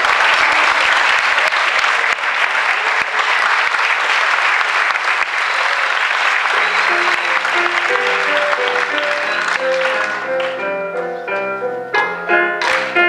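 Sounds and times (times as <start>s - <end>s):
audience applauding: 0.0s - 10.9s, 12.6s - 13.0s.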